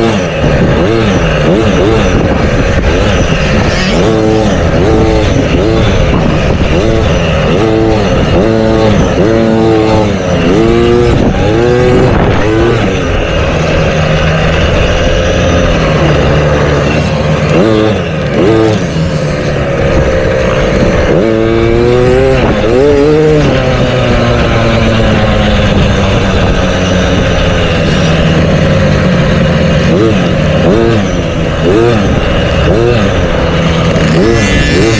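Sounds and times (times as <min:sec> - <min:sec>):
motocross engines revving: 0:00.0 - 0:34.9.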